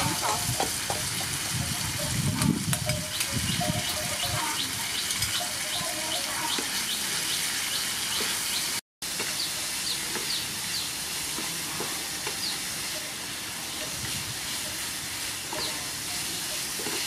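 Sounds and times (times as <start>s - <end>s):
stir-fry sizzling in a frying pan: 0.0s - 17.0s.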